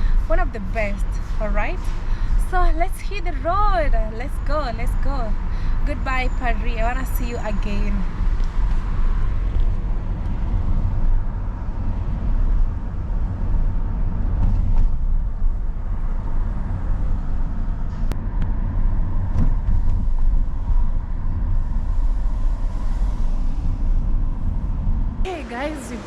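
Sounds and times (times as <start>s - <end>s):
road and engine rumble in car: 0.0s - 26.0s.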